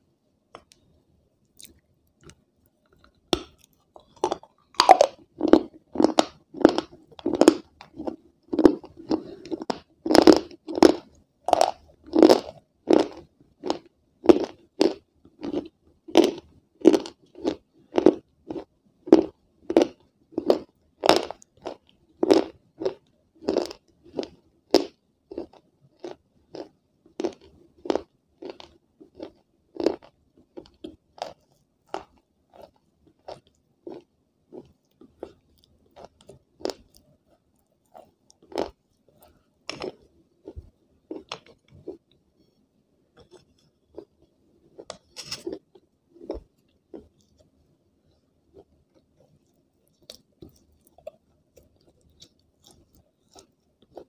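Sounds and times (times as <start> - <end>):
person chewing crunchy food: 1.6 - 42.6, 43.2 - 54.0.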